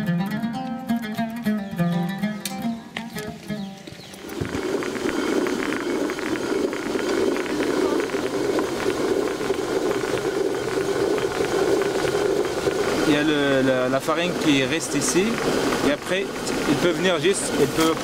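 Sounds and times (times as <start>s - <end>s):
millstone grinding grain: 3.0s - 18.0s.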